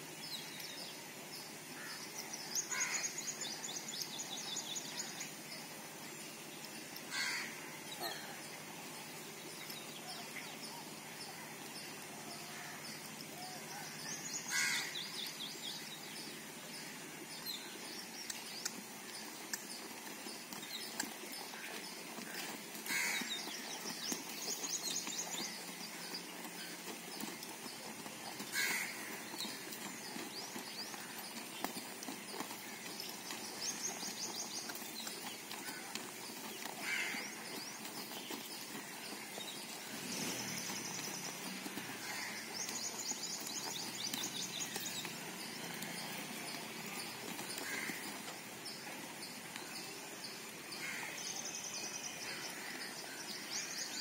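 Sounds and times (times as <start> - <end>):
horse hooves cantering on dirt: 0.0 - 54.0.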